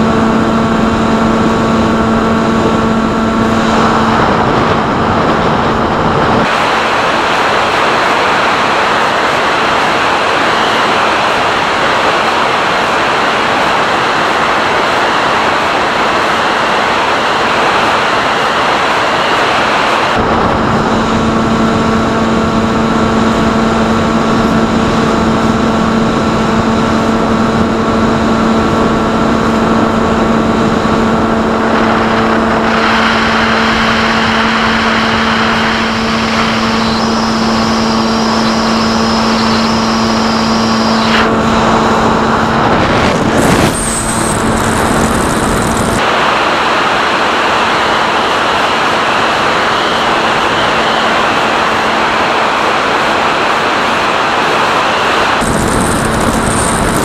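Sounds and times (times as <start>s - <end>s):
electric motor and propeller drone: 0.0s - 57.0s
wind rushing over airframe: 0.0s - 57.0s.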